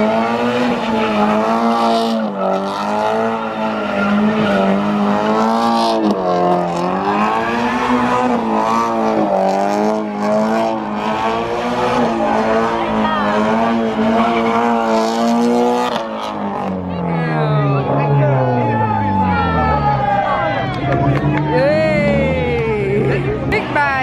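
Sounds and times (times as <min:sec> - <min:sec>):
car engine revving high: 0:00.0 - 0:24.0.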